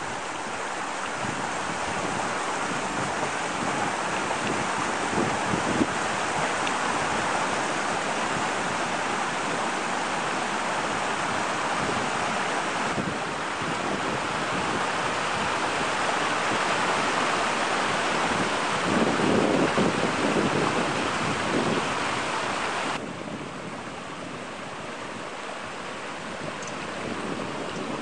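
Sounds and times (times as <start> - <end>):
brook water rushing: 0.0 - 28.0
wind buffeting microphone: 0.0 - 28.0.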